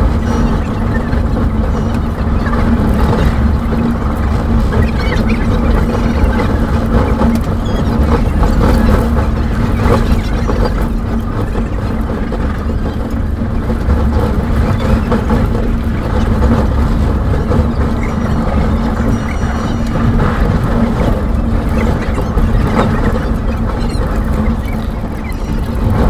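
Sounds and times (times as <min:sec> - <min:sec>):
constant low hum: 0:00.0 - 0:26.0
train rumble inside carriage: 0:00.0 - 0:26.0.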